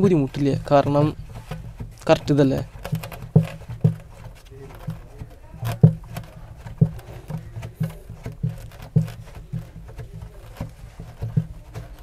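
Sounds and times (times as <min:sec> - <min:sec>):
pipe fitting knocking on drum: 0:00.0 - 0:12.0.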